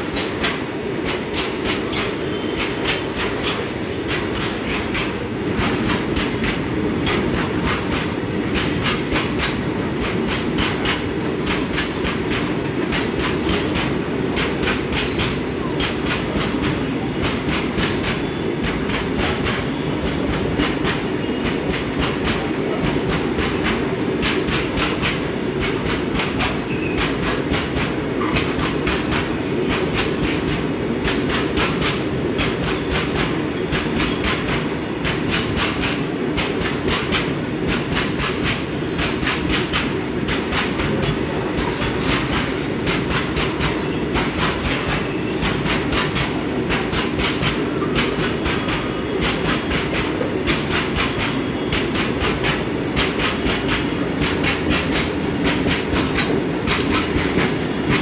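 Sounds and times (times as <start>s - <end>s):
freight train rumble: 0.0s - 58.0s
train wheels clacking on rail joints: 0.0s - 58.0s.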